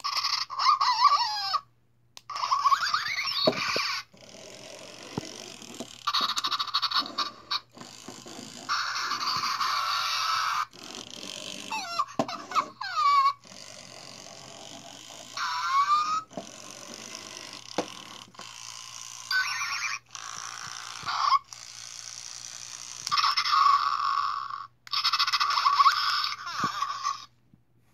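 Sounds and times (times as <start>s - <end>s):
toy dog sounds from tinny speaker: 0.0s - 27.4s.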